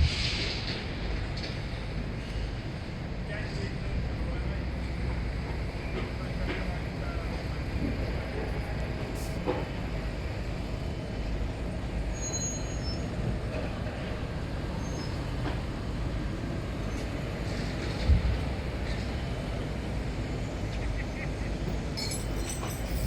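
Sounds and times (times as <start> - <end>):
heavy machinery rumble: 0.0 - 23.0.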